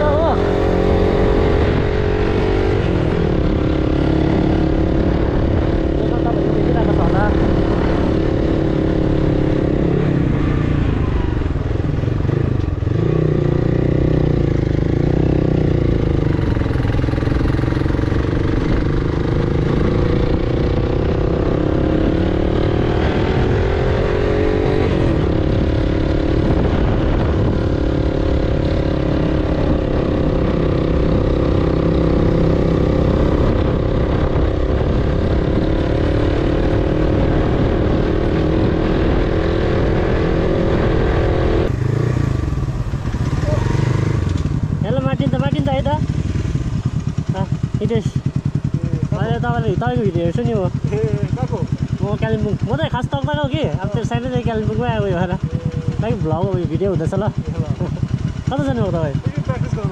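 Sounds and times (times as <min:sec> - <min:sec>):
wind rumble: 0:00.0 - 0:52.9
motorcycle engine running: 0:00.0 - 0:59.9.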